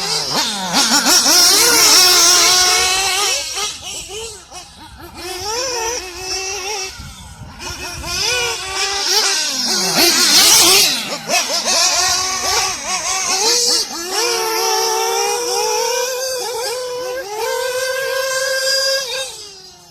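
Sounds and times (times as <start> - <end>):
model car engine revving: 0.0 - 19.9.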